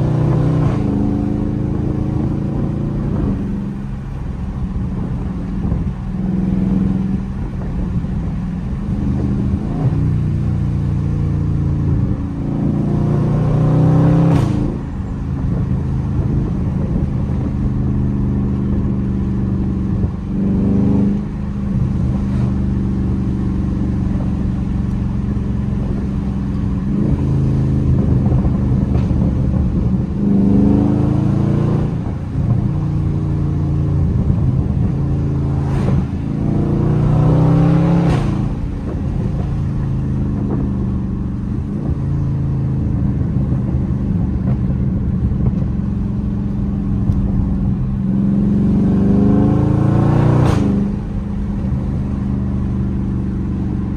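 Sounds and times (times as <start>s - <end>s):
car engine deep exhaust note: 0.0s - 53.9s.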